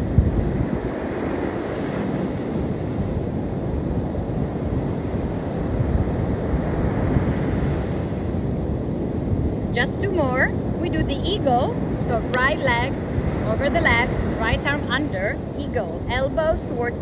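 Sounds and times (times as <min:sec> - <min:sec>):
sea surf rushing: 0:00.0 - 0:17.0
wind on microphone: 0:00.0 - 0:17.0.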